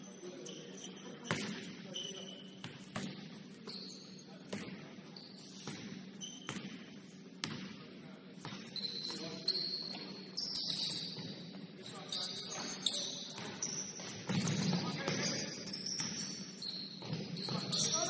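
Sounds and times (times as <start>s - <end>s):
sneakers squeaking: 0.0s - 7.8s, 8.4s - 18.0s.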